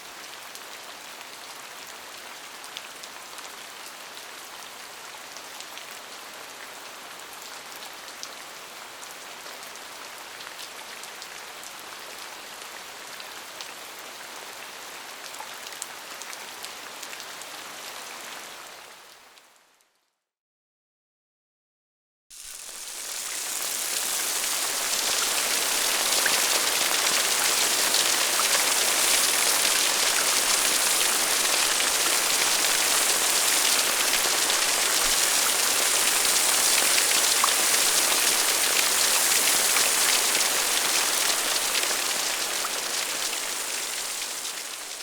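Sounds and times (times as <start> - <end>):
steady rain falling: 0.0 - 19.5, 22.3 - 45.0.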